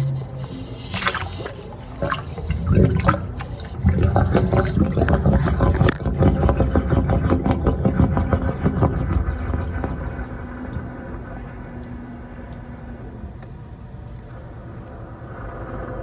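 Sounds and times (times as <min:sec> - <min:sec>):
knocking low rumble: 0:00.0 - 0:13.6
water gurgling through sewer pipe: 0:00.0 - 0:16.0.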